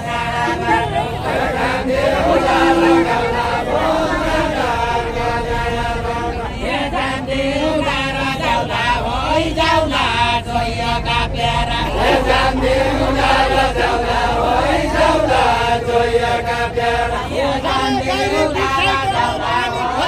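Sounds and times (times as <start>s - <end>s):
voices singing folk song: 0.0s - 20.0s.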